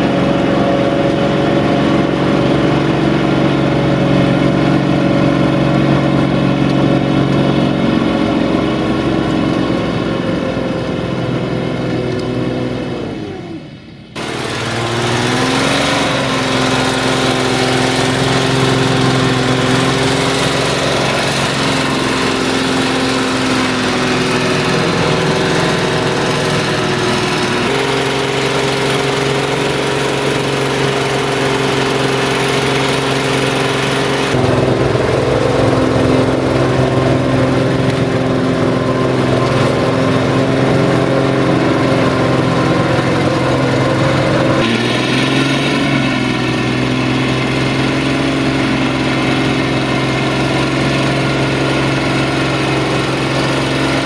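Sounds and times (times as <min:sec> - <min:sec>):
tractor diesel engines under load: 0:00.0 - 0:54.0.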